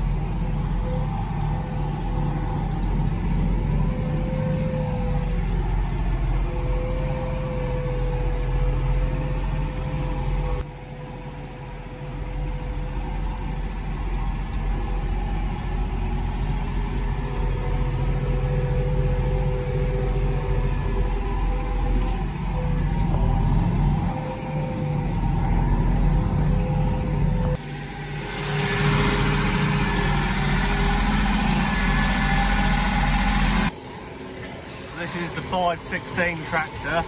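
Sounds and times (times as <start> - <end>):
steady whine: 0.0 - 37.0
tractor engine drone: 0.0 - 37.0.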